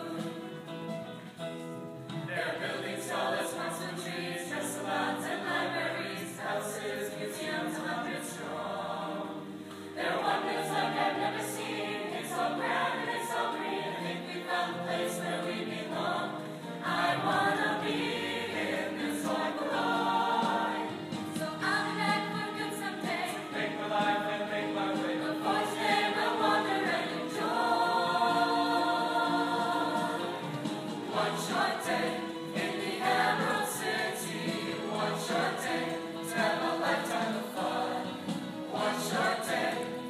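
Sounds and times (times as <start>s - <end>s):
mixed choir singing in harmony: 0.0s - 1.2s, 2.1s - 40.0s.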